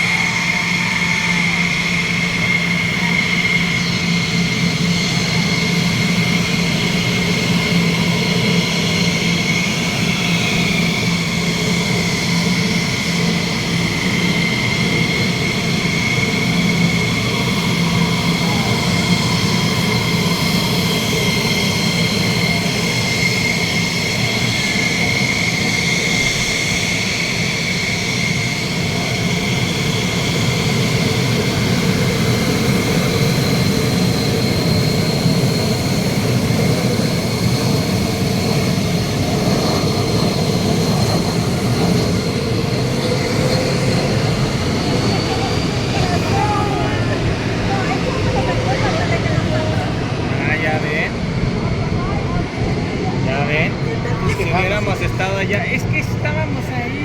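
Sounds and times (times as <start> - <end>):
jet engine running: 0.0 - 57.0.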